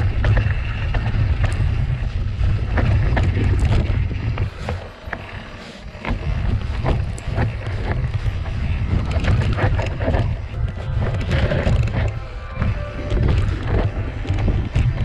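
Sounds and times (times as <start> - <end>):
bike rattling over ground: 0.0 - 15.0
wind rumbling on microphone: 0.0 - 15.0.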